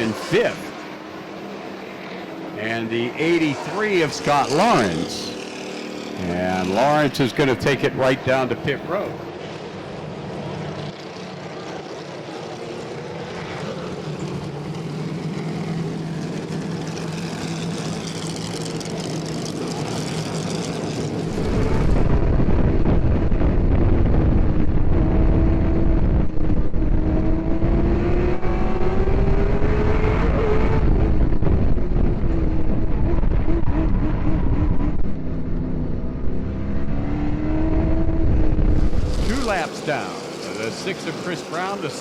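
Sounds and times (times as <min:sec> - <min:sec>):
race car engines running: 0:00.0 - 0:42.0.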